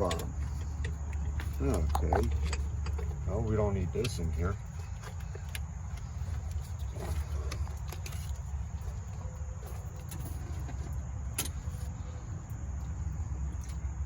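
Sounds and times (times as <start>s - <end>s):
hand tools clinking: 0.0s - 12.1s
steady low rumble: 0.0s - 14.0s.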